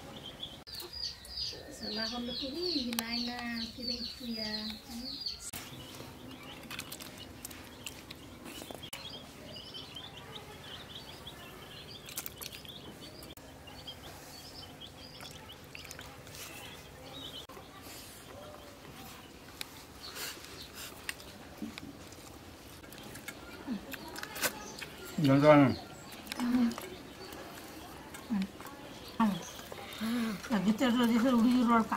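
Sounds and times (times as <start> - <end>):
rural ambient hum: 0.0 - 31.9
small birds chirping: 0.0 - 31.9.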